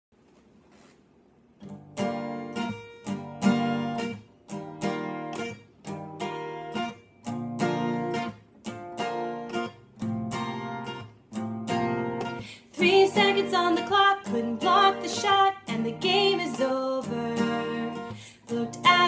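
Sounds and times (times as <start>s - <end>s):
acoustic guitar strumming: 1.6s - 19.0s.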